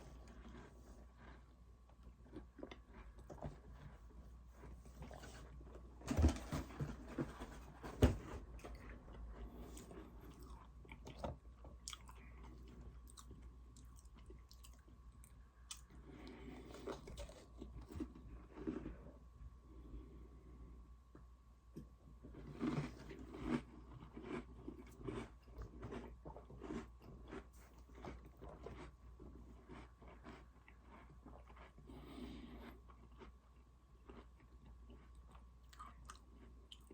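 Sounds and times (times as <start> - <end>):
chewing and crunching cookies: 0.0 - 36.9.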